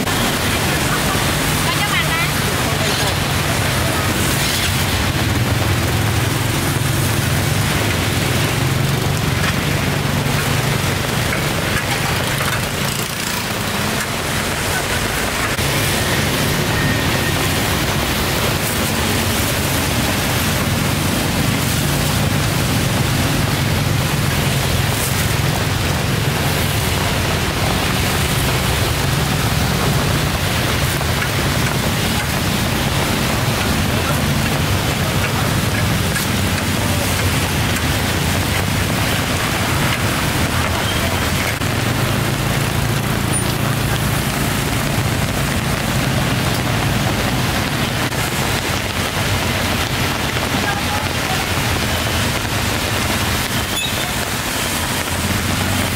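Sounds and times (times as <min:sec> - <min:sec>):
passing motorbike traffic hum: 0:00.0 - 0:55.9
steady rain hiss: 0:00.0 - 0:55.9.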